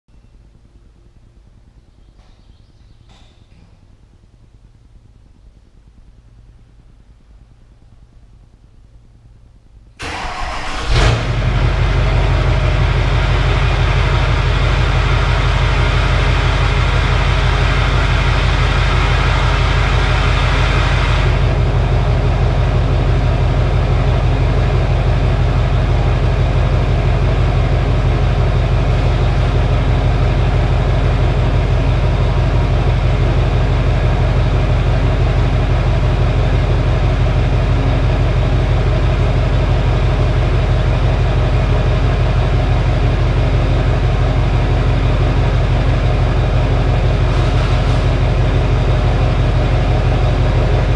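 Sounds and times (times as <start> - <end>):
diesel engine idling: 10.0 - 50.9.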